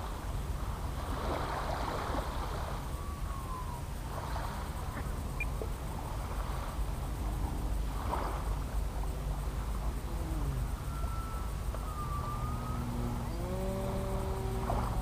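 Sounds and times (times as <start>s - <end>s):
propeller aircraft engine droning: 0.0s - 15.0s
wind rumble on microphone: 0.0s - 15.0s.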